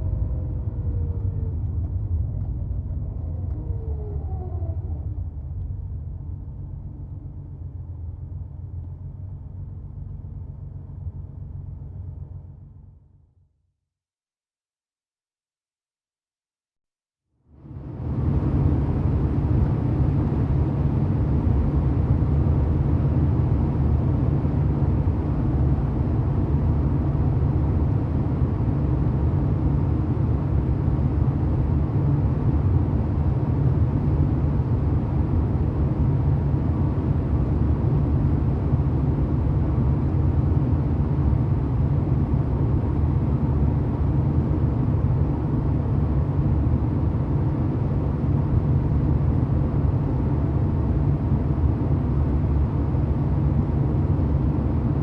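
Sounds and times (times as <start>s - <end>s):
car engine droning steadily: 0.0s - 13.2s, 17.5s - 55.0s.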